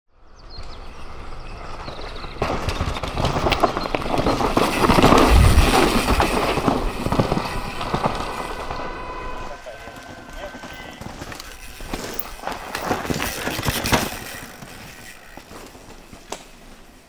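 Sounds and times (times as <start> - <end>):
bike tyres crunching over gravel: 0.4 - 17.0.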